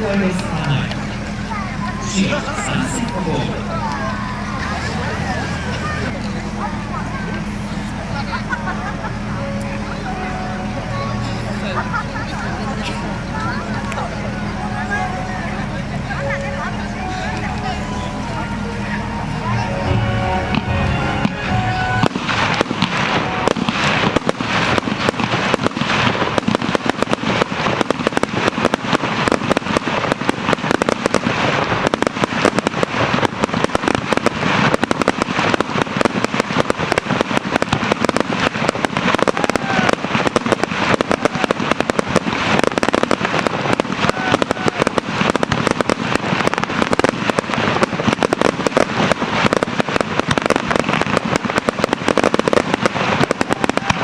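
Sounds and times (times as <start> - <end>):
fireworks bursts and bangs: 0.0 - 54.0.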